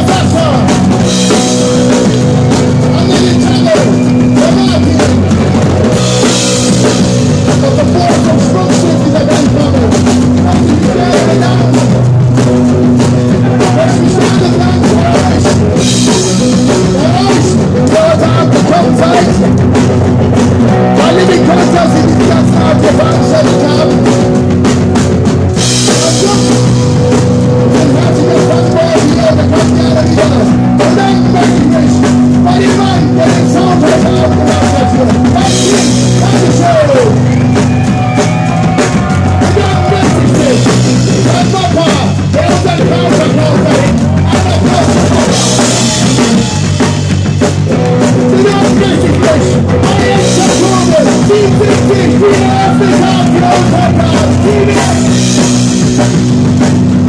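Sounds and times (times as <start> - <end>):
live punk rock band: 0.0 - 57.0.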